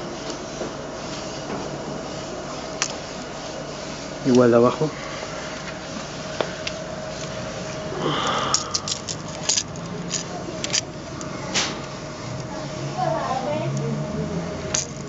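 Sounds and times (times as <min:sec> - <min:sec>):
faint steady hum: 0:01.4 - 0:15.0.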